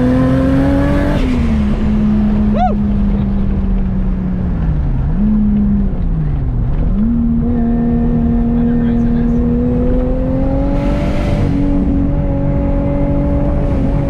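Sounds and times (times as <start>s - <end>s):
car engine droning: 0.0s - 14.0s
road rumble: 0.0s - 14.0s.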